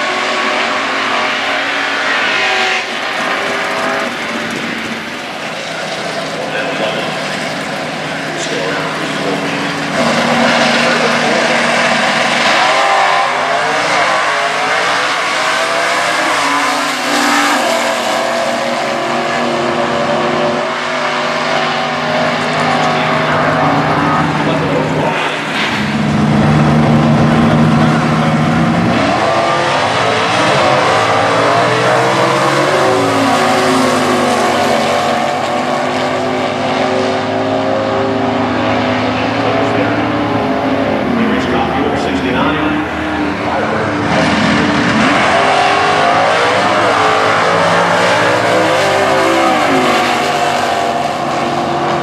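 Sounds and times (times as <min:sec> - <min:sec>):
race car engines at full throttle: 0:00.0 - 0:52.0.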